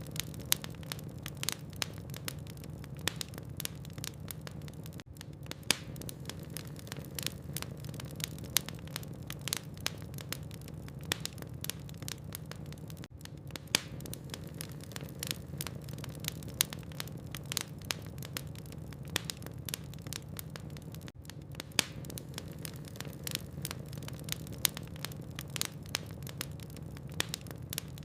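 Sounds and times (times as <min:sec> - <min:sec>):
logs crackling and popping: 0:00.0 - 0:28.0
low rumble of fire: 0:00.0 - 0:28.0.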